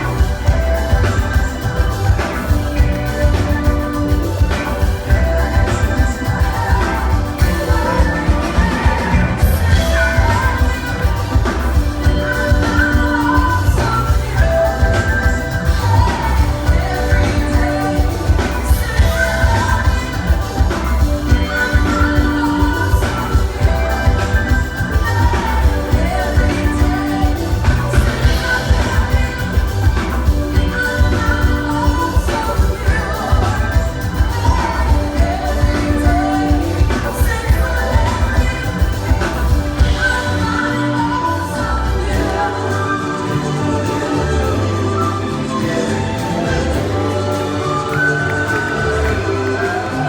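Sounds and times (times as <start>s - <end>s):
live band playing pop song: 0.0s - 50.0s
person singing: 0.0s - 50.0s.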